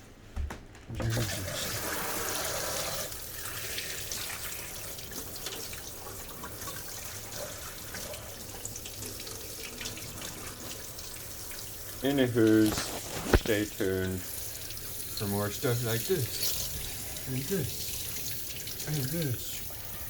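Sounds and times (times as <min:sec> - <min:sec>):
tap water running into sink: 0:01.0 - 0:20.0.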